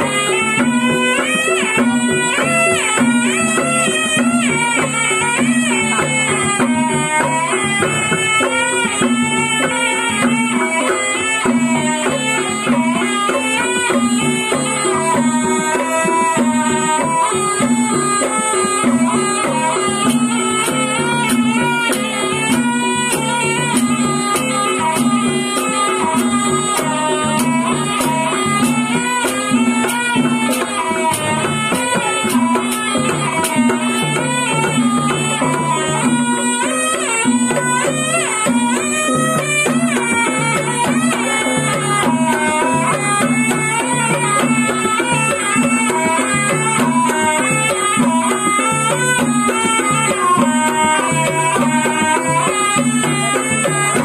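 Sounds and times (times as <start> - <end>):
double-reed shawm melody: 0.0 - 54.0
percussion beat: 0.0 - 54.0
steady drum strokes: 0.0 - 54.0.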